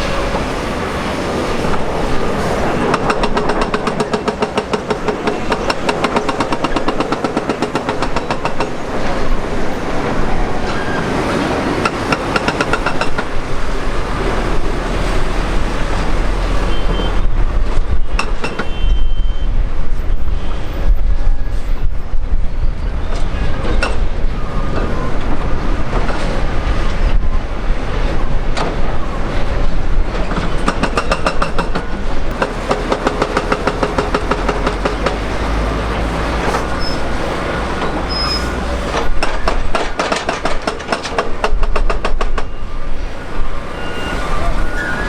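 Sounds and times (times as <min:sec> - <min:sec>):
jet engines rumbling: 0:00.0 - 0:18.4, 0:21.8 - 0:41.8.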